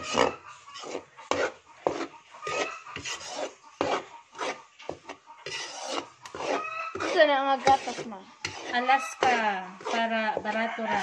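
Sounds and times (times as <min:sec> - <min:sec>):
spatula scraping a metal pan: 0:00.0 - 0:11.0.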